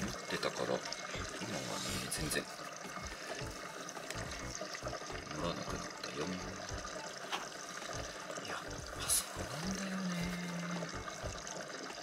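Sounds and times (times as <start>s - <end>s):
water draining through hose: 0.0s - 12.0s.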